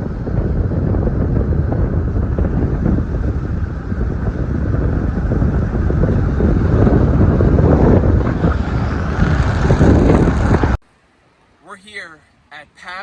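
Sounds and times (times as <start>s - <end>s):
strong wind buffeting microphone: 0.0s - 10.8s.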